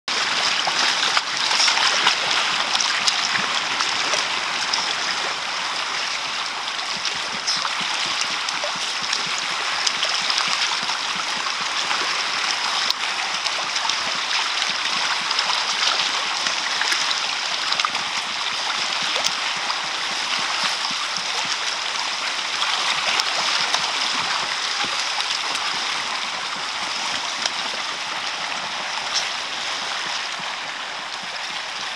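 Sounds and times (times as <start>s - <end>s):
small sharp splashes: 0.1s - 31.9s
water churning and splashing: 0.1s - 31.9s.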